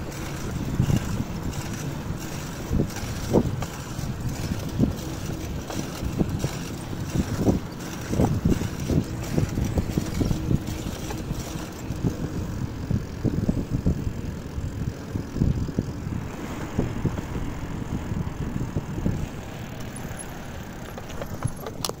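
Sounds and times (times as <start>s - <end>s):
bicycle road noise: 0.0s - 22.0s
wind buffeting microphone: 0.0s - 22.0s.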